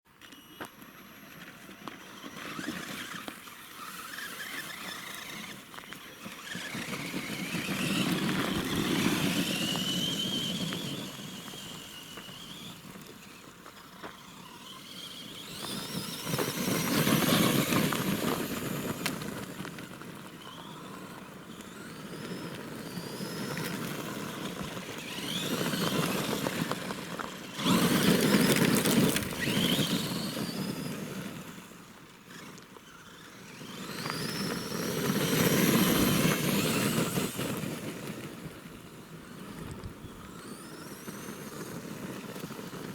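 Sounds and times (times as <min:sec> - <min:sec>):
toy truck electric motor whining: 0:00.2 - 0:42.9.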